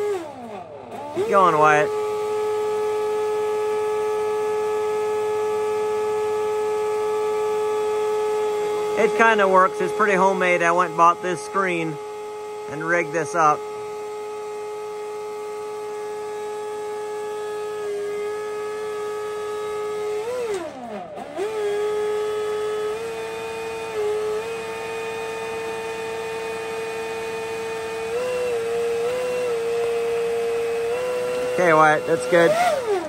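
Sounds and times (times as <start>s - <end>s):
leaf blower whining: 0.0s - 33.0s.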